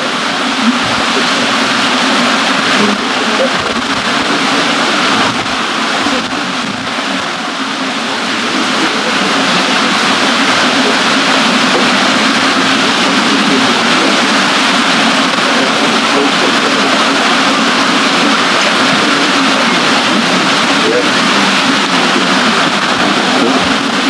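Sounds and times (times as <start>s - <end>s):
river flowing: 0.0s - 24.0s
water wheel rushing water: 0.0s - 24.0s.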